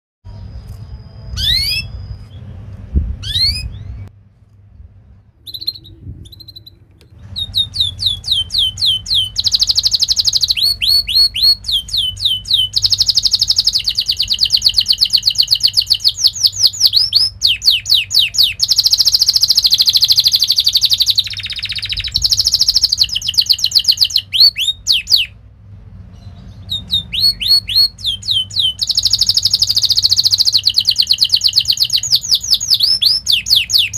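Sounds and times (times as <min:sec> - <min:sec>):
canary singing: 0:00.3 - 0:04.1, 0:05.4 - 0:25.4, 0:26.0 - 0:33.9.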